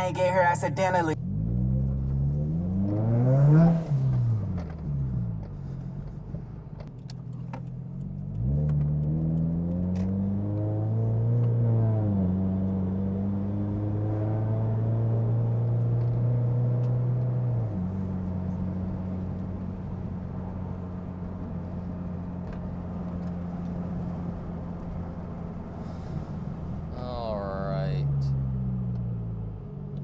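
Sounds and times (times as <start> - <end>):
car engine running while driving: 0.0 - 30.0.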